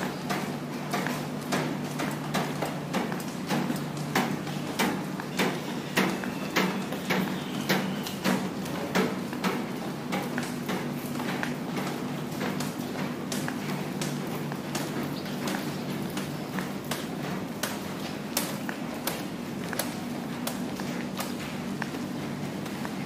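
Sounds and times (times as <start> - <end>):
footsteps on wet concrete: 0.0 - 23.0.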